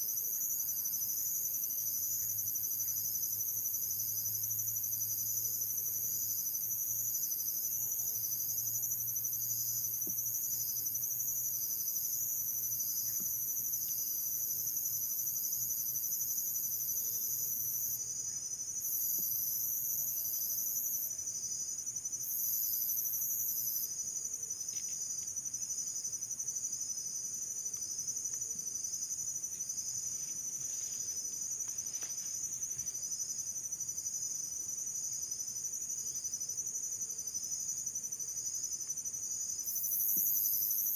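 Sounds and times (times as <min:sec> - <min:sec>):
insects pulsing trill: 0:00.1 - 0:40.9.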